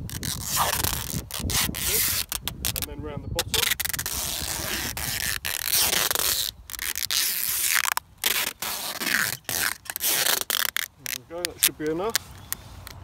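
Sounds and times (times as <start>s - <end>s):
packing tape ripping off roll: 0.0s - 13.0s.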